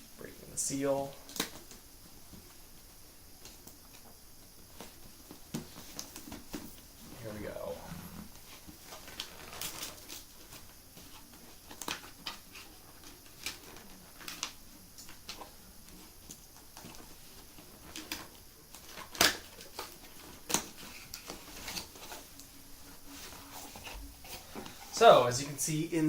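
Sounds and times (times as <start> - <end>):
cardboard rustling and scraping: 3.4 - 26.0.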